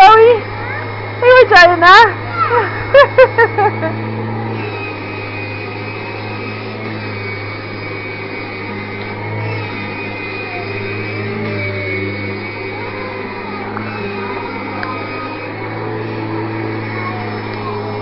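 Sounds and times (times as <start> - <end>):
vacuum cleaner motor running: 0.0 - 18.0.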